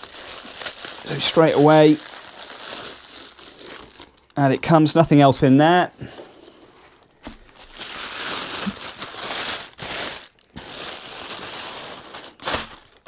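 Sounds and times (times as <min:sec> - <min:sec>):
plastic packaging crinkling: 0:00.0 - 0:04.8, 0:06.5 - 0:13.0.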